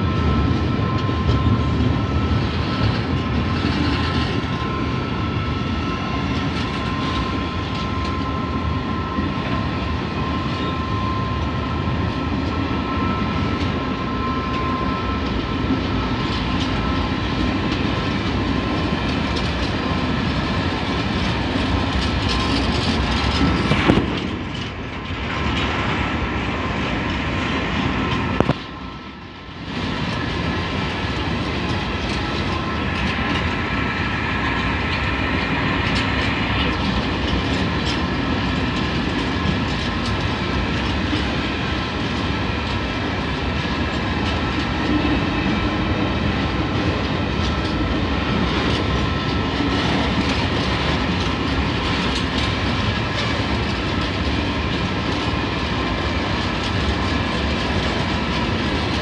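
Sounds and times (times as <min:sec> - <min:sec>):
train wheels rumbling over rail joints: 0:00.0 - 0:59.0.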